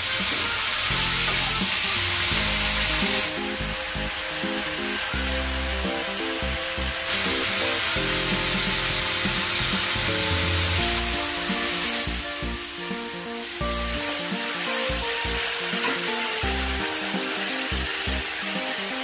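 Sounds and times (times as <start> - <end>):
background music with held notes: 0.0 - 19.0
vegetables sizzling in a pan: 0.0 - 19.0.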